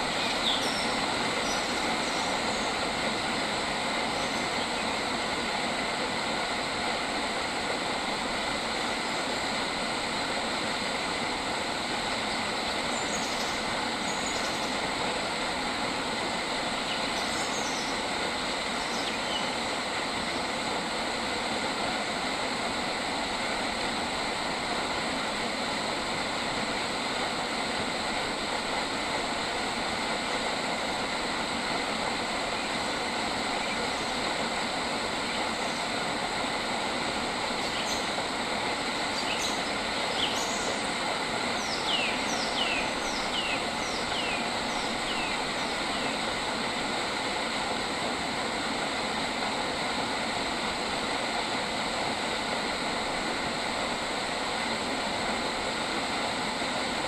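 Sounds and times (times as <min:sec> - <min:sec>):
dense outdoor hiss: 0:00.0 - 0:57.0.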